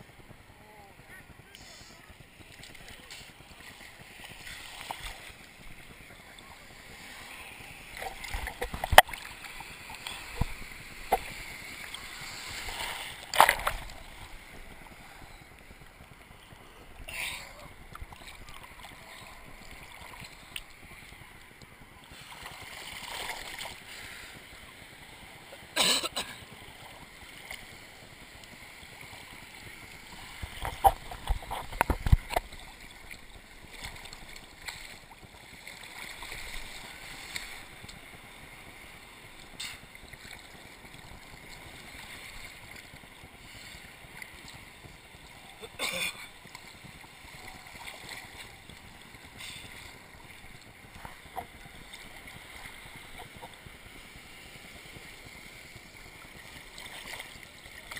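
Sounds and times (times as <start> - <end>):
ocean surf sloshing and splashing: 0.0 - 57.9.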